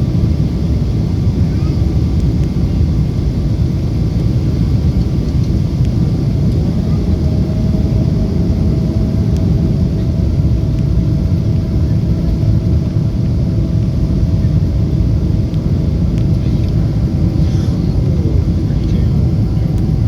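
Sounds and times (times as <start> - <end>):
airliner engine rumble: 0.0 - 20.0.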